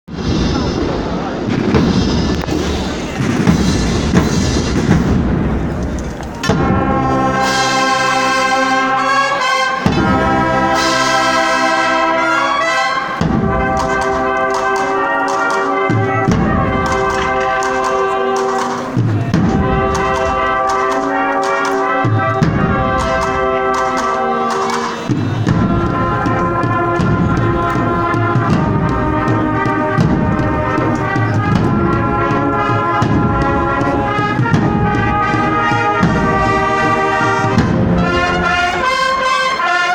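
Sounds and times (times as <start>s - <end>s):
steady drum beats: 0.0s - 39.8s
brass band playing a march: 0.1s - 39.9s.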